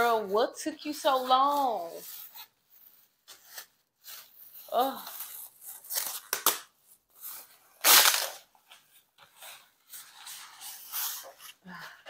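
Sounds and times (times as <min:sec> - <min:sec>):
plastic wrap crinkling and rustling: 0:00.8 - 0:12.0.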